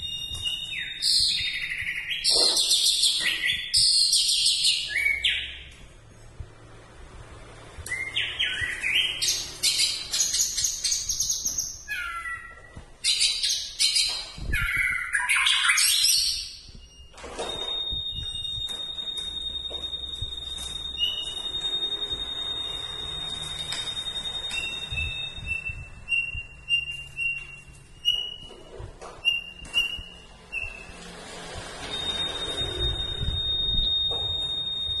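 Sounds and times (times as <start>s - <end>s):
songbird whistling: 0.0s - 5.7s, 7.9s - 28.6s, 29.2s - 31.0s, 31.9s - 35.0s.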